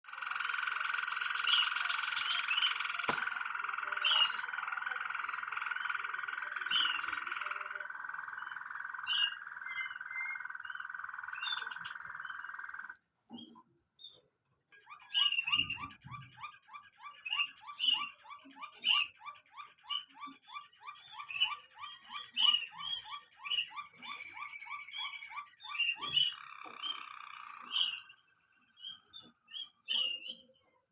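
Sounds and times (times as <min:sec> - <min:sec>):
canary singing: 0:00.0 - 0:14.2, 0:14.8 - 0:30.9.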